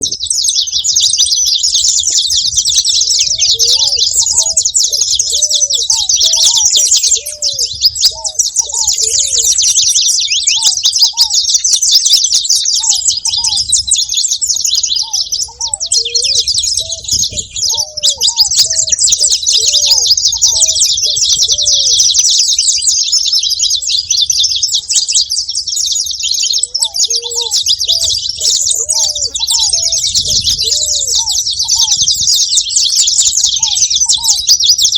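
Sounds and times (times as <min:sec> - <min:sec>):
finch chirping and twittering: 0:00.0 - 0:34.9.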